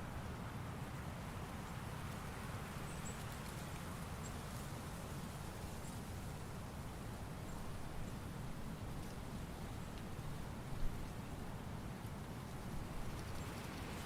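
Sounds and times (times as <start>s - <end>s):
rustling leaves: 0.0s - 14.0s
wind through trees: 0.0s - 14.0s.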